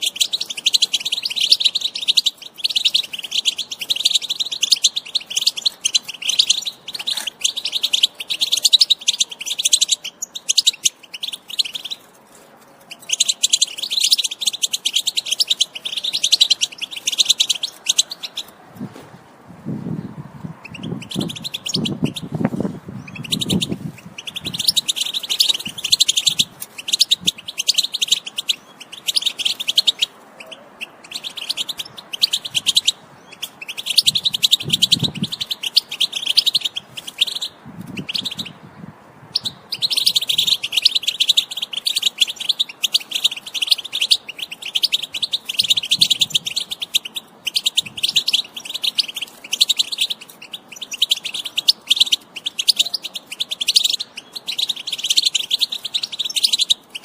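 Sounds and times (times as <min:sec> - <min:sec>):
goldfinch twittering song: 0:00.0 - 0:12.1, 0:12.8 - 0:18.6, 0:20.6 - 0:22.4, 0:23.0 - 0:57.0.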